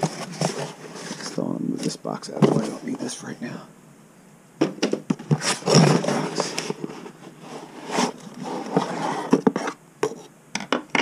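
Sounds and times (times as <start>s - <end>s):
boxes rustling and scraping: 0.0s - 3.3s, 4.6s - 10.3s.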